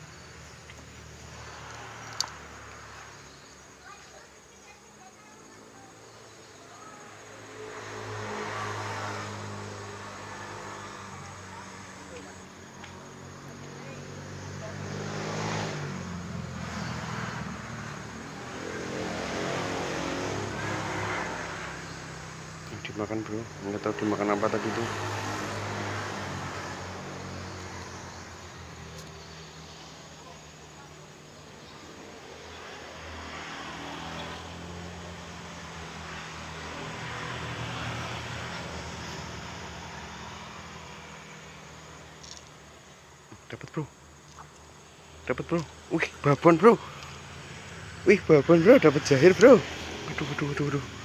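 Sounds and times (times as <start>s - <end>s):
road traffic passing: 0.0s - 51.0s.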